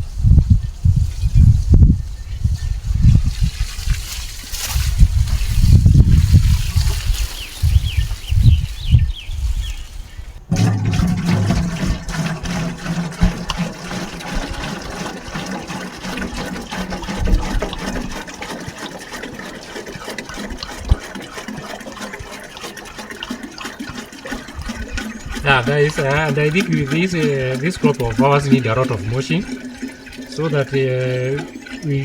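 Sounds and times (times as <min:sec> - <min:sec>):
water pouring and splashing: 0:02.8 - 0:08.8, 0:09.6 - 0:32.0.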